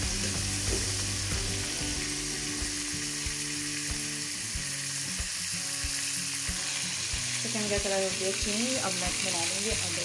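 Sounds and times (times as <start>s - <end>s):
chicken frying in hot oil: 0.0s - 10.0s.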